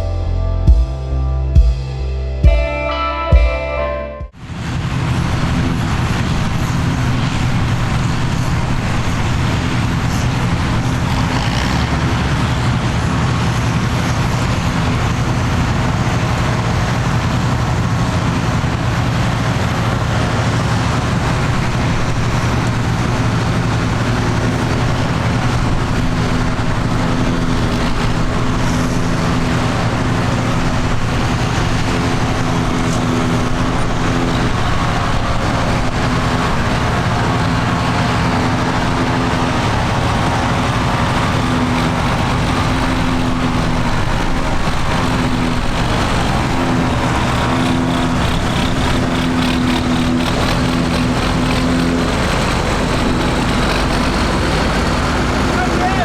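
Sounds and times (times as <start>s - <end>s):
tractor engine running: 4.3s - 56.0s.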